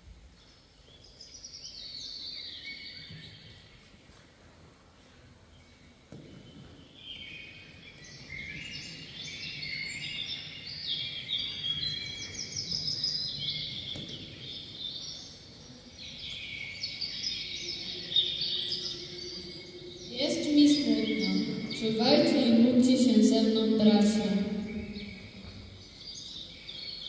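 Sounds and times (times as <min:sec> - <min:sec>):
small birds chirping and trilling: 0:00.3 - 0:03.9, 0:05.5 - 0:27.0.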